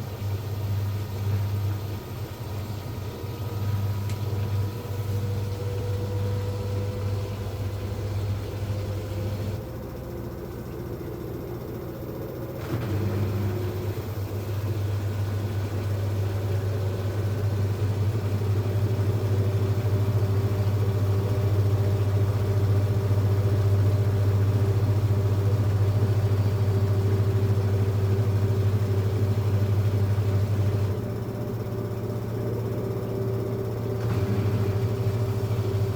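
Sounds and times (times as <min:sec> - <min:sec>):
washing machine spin hum: 0:00.0 - 0:35.9.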